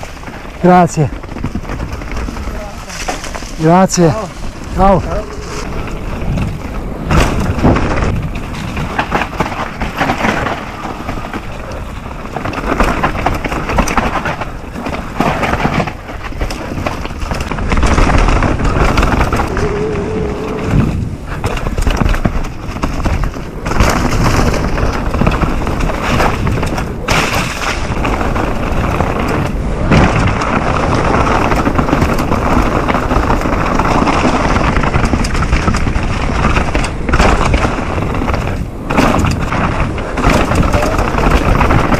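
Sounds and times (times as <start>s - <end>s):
bike rattling: 0.0s - 41.9s
bike thumping over bumps: 0.0s - 41.9s
bike tyres skidding over dirt: 0.0s - 41.9s.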